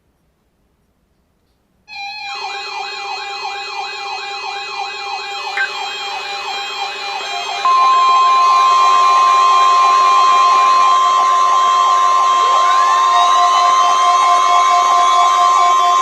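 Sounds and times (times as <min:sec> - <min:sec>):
steady high alarm tone: 0:01.9 - 0:16.0
wailing siren tone: 0:01.9 - 0:16.0.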